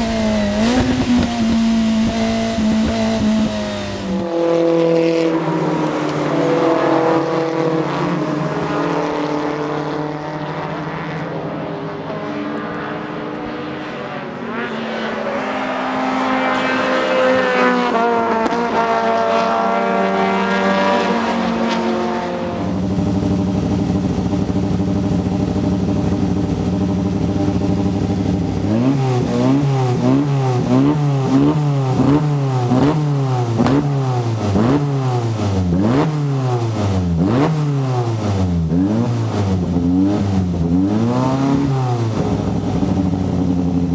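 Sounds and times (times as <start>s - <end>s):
engine revving in blips: 0.0s - 8.2s, 15.8s - 43.9s
race car engine and exhaust: 0.0s - 43.9s.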